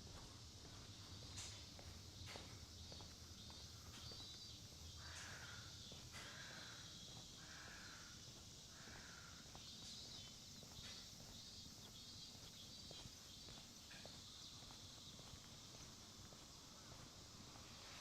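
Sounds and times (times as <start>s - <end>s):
soft footsteps: 0.0s - 18.0s
faint high chirping: 0.2s - 18.0s.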